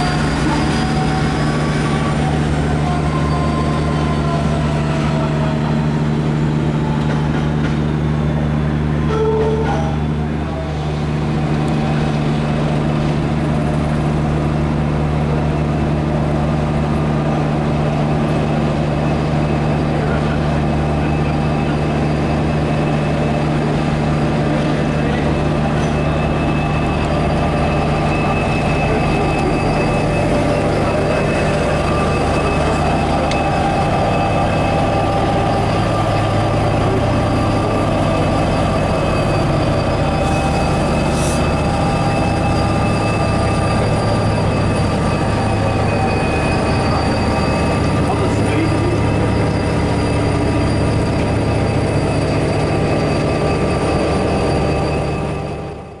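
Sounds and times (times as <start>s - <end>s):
diesel locomotive engine hum: 0.0s - 56.0s
locomotive whine: 0.0s - 56.0s.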